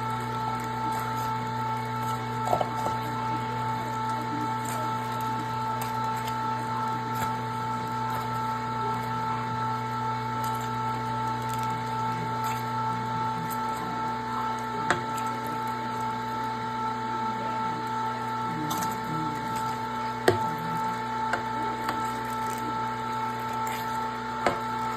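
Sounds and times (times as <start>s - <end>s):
meat grinder motor whining: 0.0s - 24.9s.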